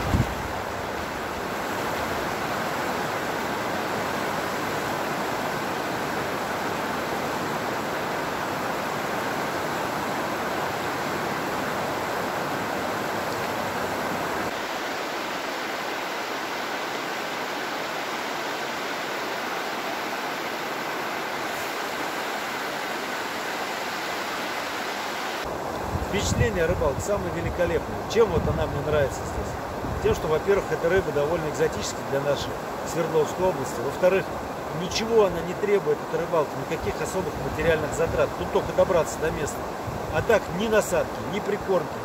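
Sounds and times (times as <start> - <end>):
water rushing over a weir: 0.0 - 42.0.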